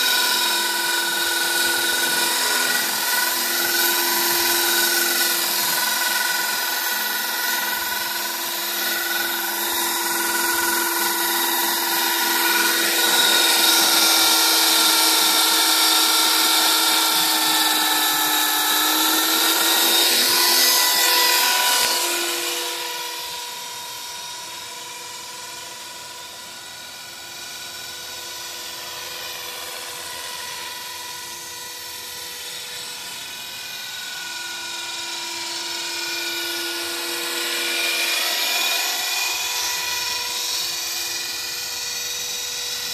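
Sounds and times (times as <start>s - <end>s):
rc helicopter rotor whine: 0.0s - 42.9s.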